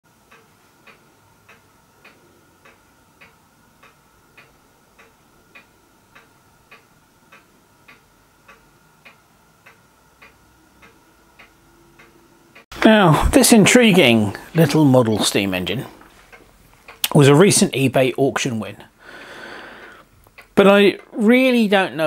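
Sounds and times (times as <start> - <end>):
faint steady hum: 0.1 - 22.0
faint ticking: 0.1 - 22.0.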